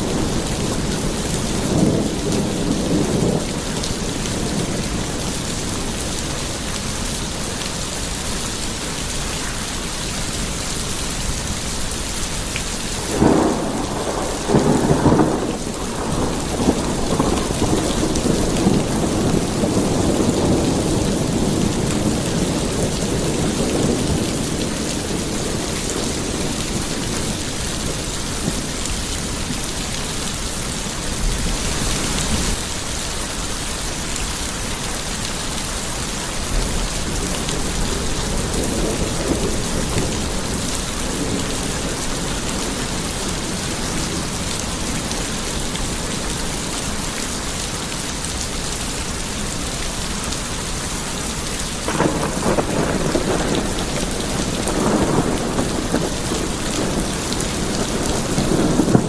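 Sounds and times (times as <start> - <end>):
thunder rumbling: 0.0 - 32.7, 35.4 - 47.5, 51.8 - 59.0
heavy rain: 0.0 - 59.0.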